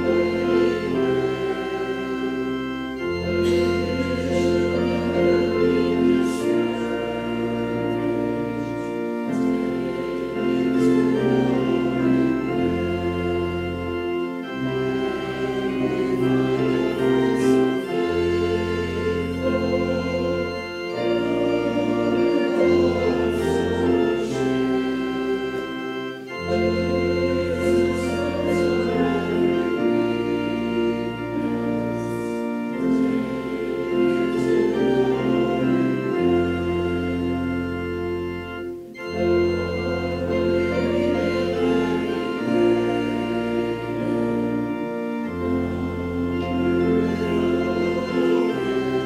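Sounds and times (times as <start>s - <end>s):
organ playing slow chords: 0.0s - 49.0s.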